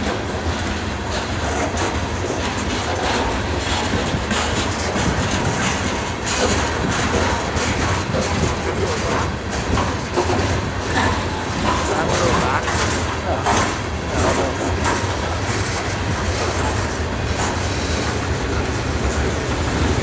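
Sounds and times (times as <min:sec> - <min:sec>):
train wheels rumbling on rail: 0:00.0 - 0:20.0
wheel clicks on rail joints: 0:00.0 - 0:20.0.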